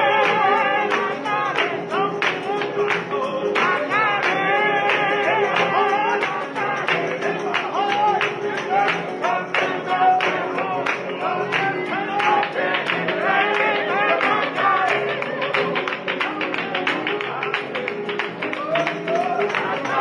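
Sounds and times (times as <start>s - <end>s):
flamenco guitar music: 0.0s - 20.0s.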